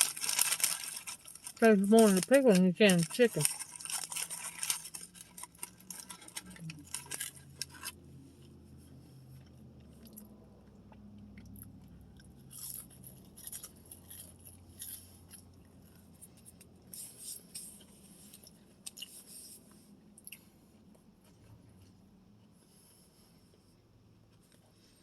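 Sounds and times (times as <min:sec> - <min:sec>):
person chewing crunchy food: 0:00.0 - 0:02.4, 0:03.4 - 0:22.6.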